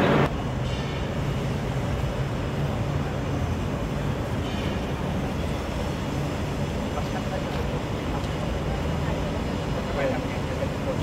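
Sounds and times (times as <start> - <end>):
vehicle engines rumbling: 0.0 - 11.0.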